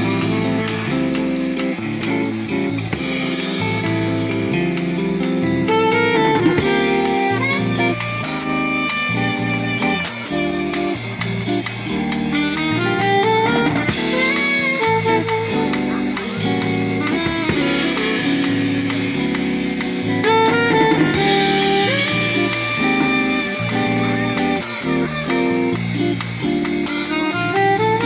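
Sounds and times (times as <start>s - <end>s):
live band playing jazzy music: 0.0s - 28.0s.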